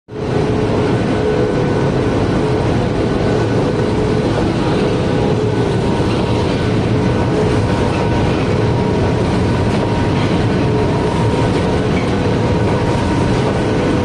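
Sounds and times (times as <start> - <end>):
steady hum tones: 0.1 - 14.0.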